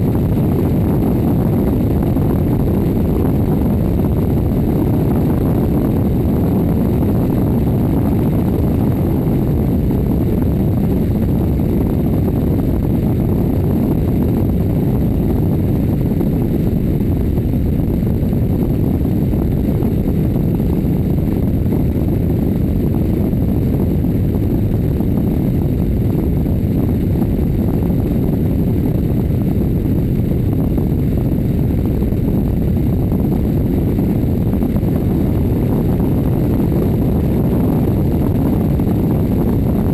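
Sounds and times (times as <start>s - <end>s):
plane engine and airflow in flight: 0.0s - 39.9s.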